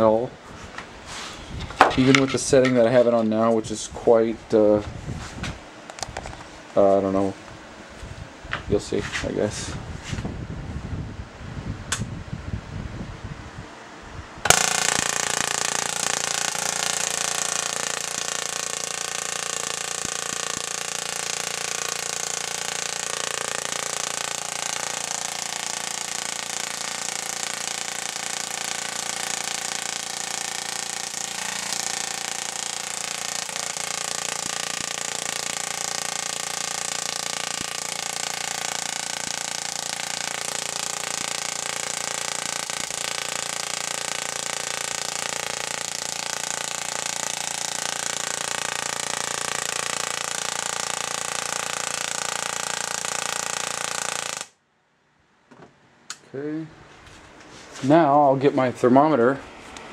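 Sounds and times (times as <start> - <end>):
tesla coil electric buzz: 0.0 - 12.9, 14.1 - 54.7.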